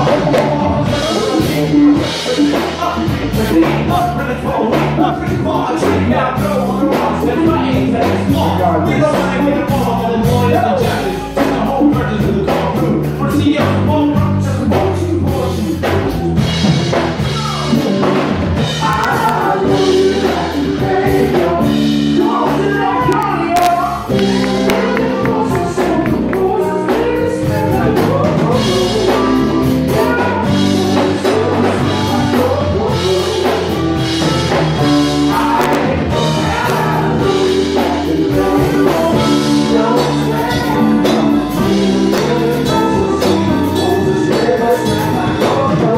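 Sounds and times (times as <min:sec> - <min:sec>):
live band playing: 0:00.0 - 0:45.9
person singing: 0:00.0 - 0:45.9.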